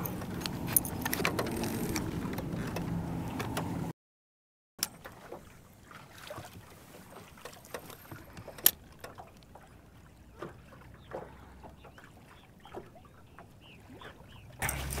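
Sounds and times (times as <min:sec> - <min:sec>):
small waves lapping against boat hull: 0:00.0 - 0:03.9, 0:04.8 - 0:15.0.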